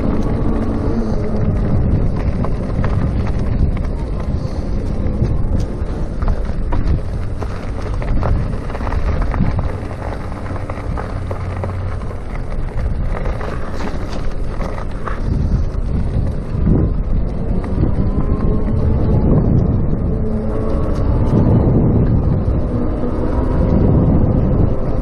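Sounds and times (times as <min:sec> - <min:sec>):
tyres rumbling on road: 0:00.0 - 0:25.0
wind buffeting microphone: 0:00.0 - 0:25.0.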